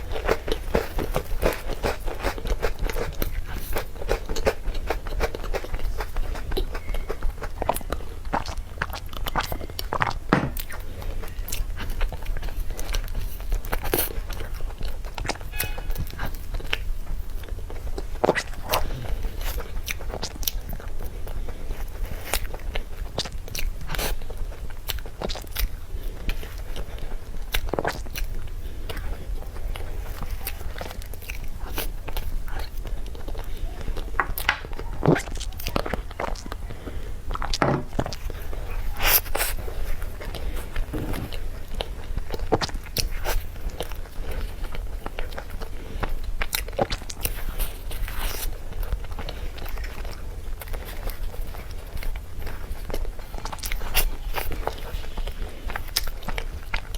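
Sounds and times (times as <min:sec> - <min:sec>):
chewing with wet sticky clicks: 0:00.0 - 0:56.9.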